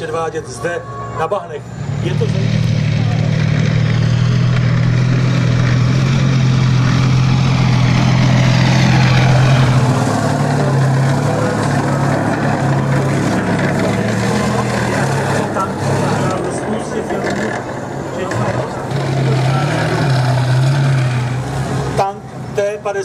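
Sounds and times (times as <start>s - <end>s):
tank diesel engine droning: 0.0s - 22.8s.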